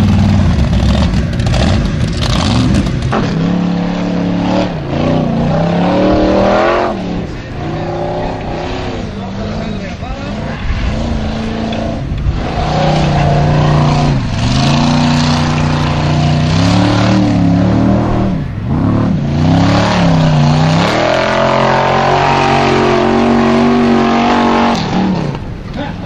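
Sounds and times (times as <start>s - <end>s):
engine revving hard: 0.0s - 25.4s.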